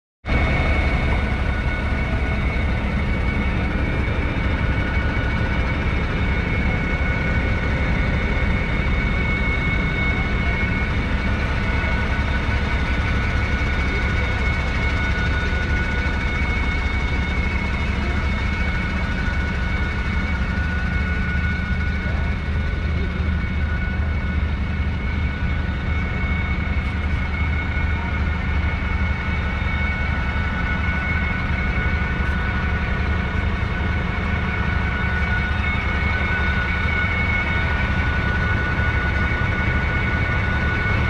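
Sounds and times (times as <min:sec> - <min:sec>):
steady high whine: 0:00.3 - 0:41.0
tractor diesel engine running: 0:00.3 - 0:41.0.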